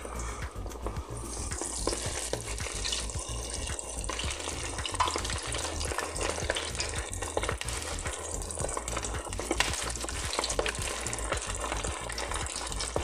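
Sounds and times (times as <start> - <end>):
chicken deep-frying in hot oil: 0.0 - 13.0.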